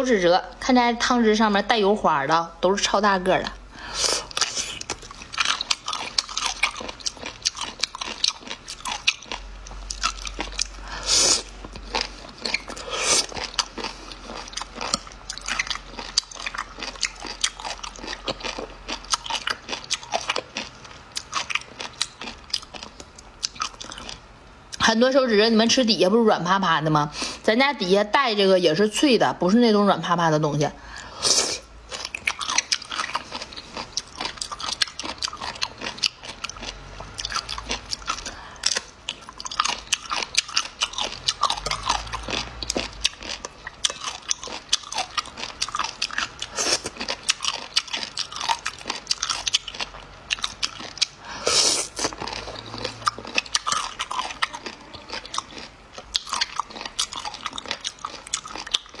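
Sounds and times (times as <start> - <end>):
person chewing crunchy food: 3.3 - 24.8, 31.0 - 59.0.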